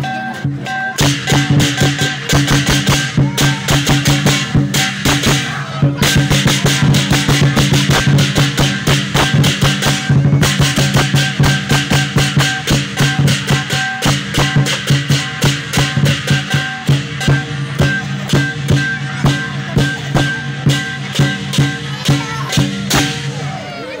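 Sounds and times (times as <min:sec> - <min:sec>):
large drum beating: 0:00.0 - 0:23.8
cymbals clashing: 0:00.0 - 0:24.0.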